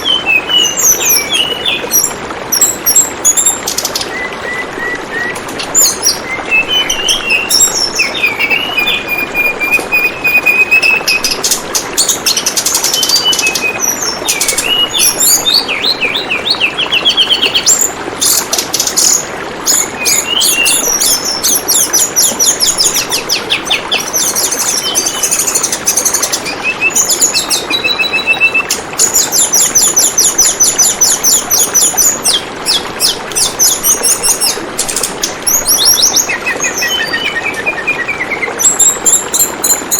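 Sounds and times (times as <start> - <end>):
bird chirping and trilling: 0.0 - 39.9
water trickling: 0.0 - 39.9.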